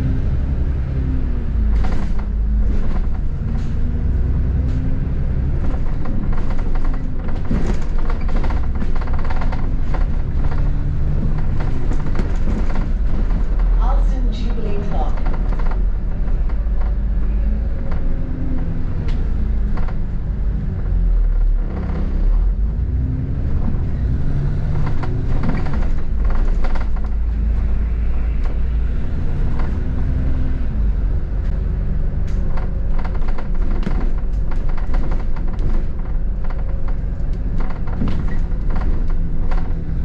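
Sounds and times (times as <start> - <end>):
bus engine rumble: 0.0 - 40.0
knocks and rattles: 1.6 - 40.0.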